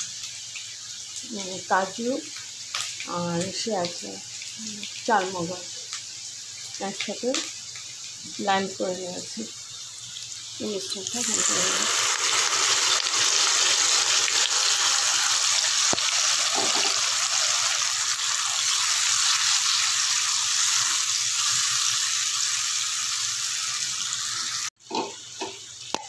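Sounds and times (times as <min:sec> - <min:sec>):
paste sizzling in hot oil: 0:00.0 - 0:26.0.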